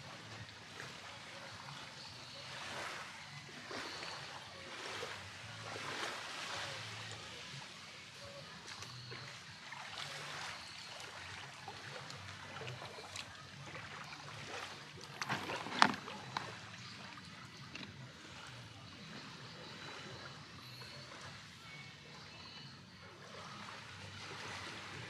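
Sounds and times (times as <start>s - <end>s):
seawater lapping and splashing: 0.0s - 25.0s.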